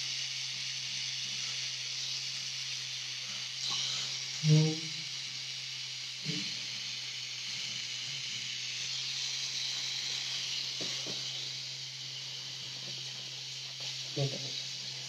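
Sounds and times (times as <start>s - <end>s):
constant hiss: 0.0s - 15.0s
tattoo machine humming: 0.0s - 15.0s.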